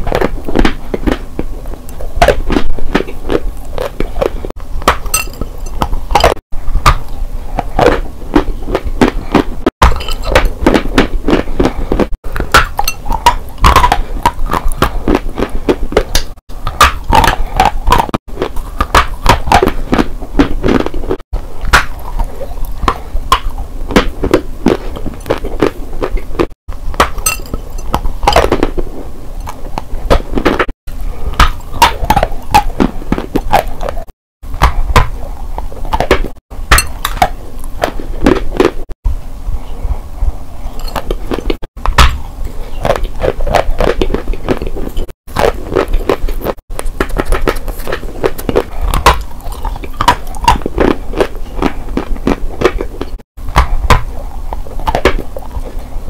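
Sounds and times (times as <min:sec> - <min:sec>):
chewing dry chalk crunches: 0:00.0 - 0:38.8, 0:40.8 - 0:56.0.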